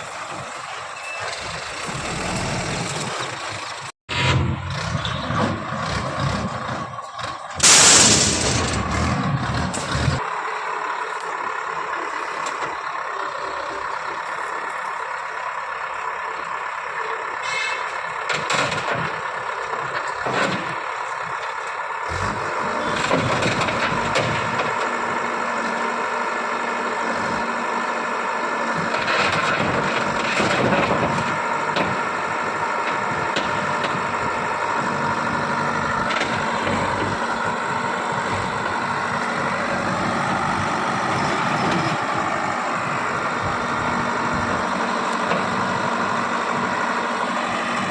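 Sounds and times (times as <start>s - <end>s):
heavy vehicle engine running: 0.0s - 47.9s.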